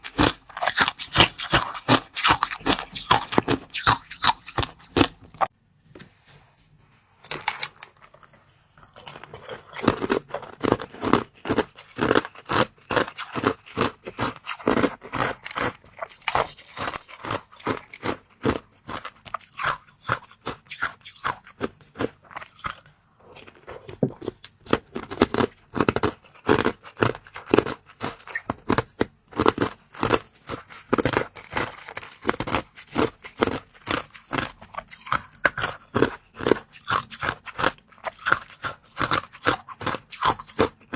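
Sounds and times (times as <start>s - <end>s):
chewing crunchy treats: 0.0s - 5.5s, 7.2s - 40.9s.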